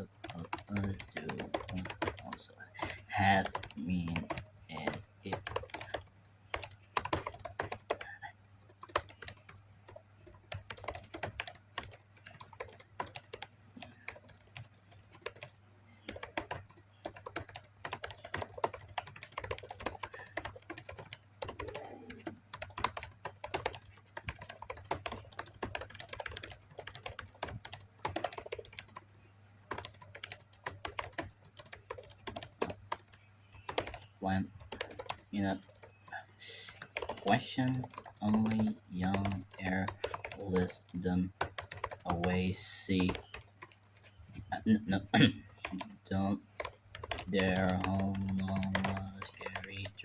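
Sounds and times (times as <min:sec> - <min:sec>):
fast typing on keyboard: 0:00.0 - 0:50.0
low steady hum: 0:00.0 - 0:50.0.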